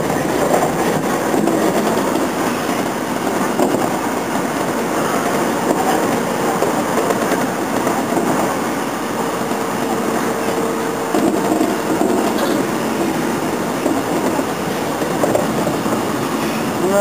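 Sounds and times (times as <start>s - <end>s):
moving train running noise: 0.0s - 17.0s.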